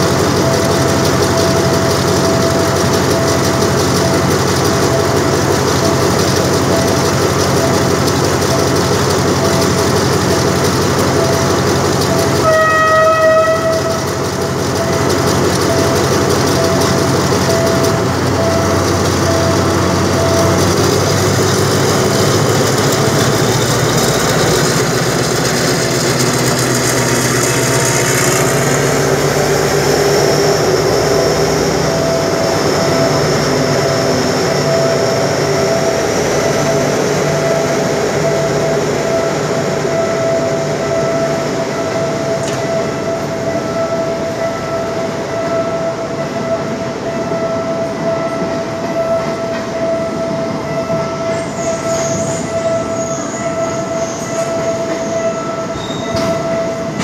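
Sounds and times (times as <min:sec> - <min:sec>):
diesel train engine drone: 0:00.0 - 0:57.0
train wheels squealing on rails: 0:00.0 - 0:57.0.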